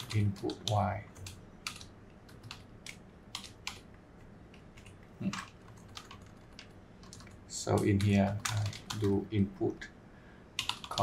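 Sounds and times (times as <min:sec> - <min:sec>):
keyboard typing clicks: 0:00.0 - 0:03.9, 0:04.5 - 0:09.2, 0:10.6 - 0:11.0.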